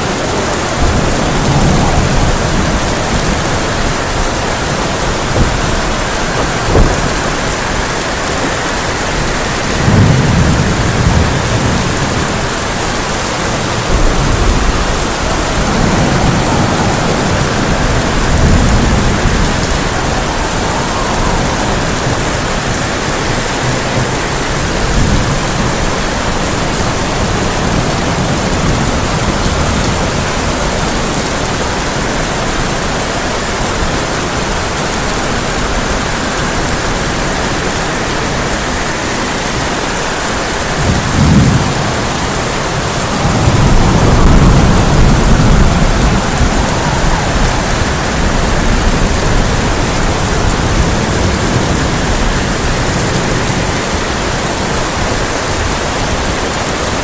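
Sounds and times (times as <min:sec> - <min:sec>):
heavy rain on a tin roof: 0:00.0 - 0:57.0
thunder rumbling: 0:00.0 - 0:57.0.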